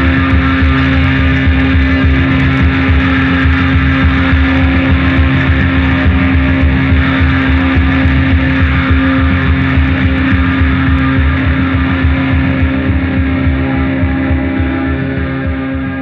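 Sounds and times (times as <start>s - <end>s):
electric guitar noise drone: 0.0s - 16.0s.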